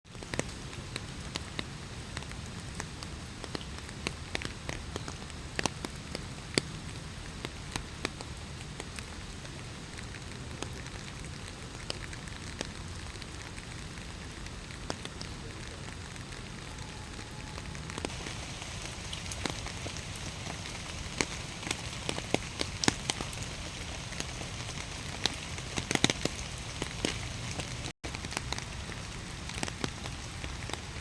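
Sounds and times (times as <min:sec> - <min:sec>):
raindrops ticking: 0:00.1 - 0:16.9, 0:17.6 - 0:31.0
steady hiss of rain: 0:00.1 - 0:31.0.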